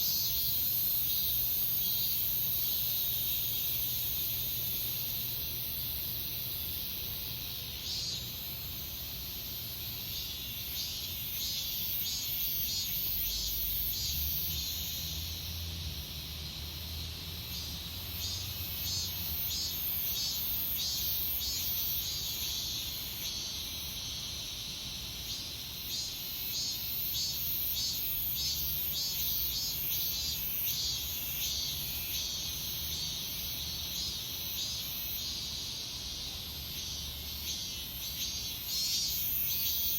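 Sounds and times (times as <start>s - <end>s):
cicadas buzzing in chorus: 0.0s - 39.9s
pulsing cicada call: 0.0s - 39.9s.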